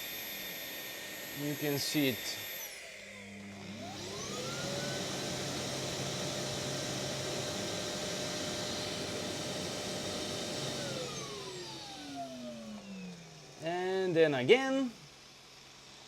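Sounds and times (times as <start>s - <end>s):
suction motor whine: 0.0s - 16.0s.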